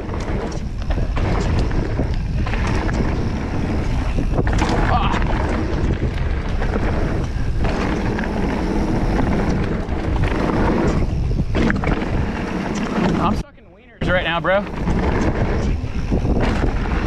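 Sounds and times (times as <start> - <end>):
bike clattering over rough ground: 0.0 - 17.0
wind buffeting microphone: 0.0 - 17.0.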